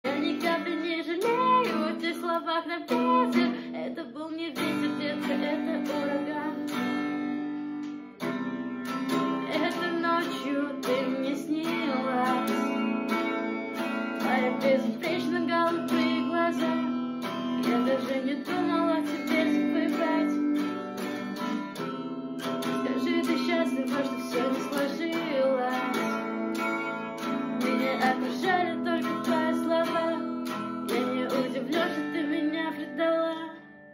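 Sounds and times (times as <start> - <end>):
person singing: 0.0 - 7.1, 9.1 - 13.2, 14.1 - 21.8, 22.5 - 33.9
strummed acoustic guitar: 0.0 - 33.9.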